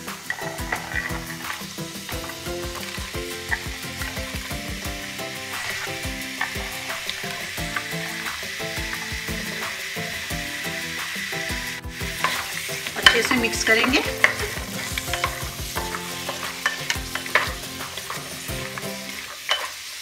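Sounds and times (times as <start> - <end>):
background music with a beat: 0.0 - 19.3
vegetables sizzling in hot fat: 0.0 - 20.0.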